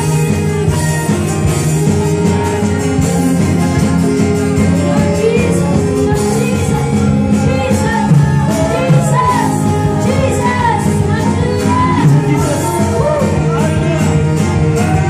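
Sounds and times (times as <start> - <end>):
acoustic guitar: 0.0 - 15.0
drums: 0.0 - 15.0
electric bass: 0.0 - 15.0
singers on microphones: 0.0 - 15.0.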